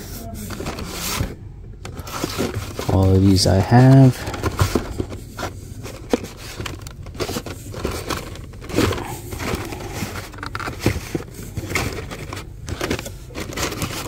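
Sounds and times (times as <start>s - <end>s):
card and plastic rustling: 0.0s - 14.0s.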